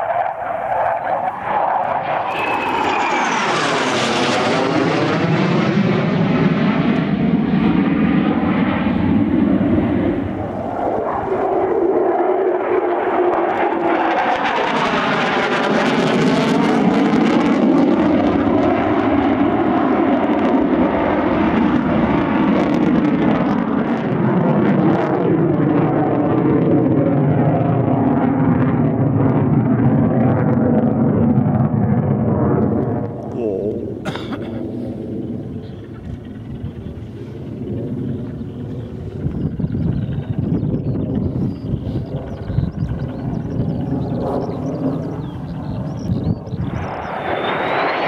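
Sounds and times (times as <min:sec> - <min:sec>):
aircraft engine flypast: 0:00.0 - 0:48.0.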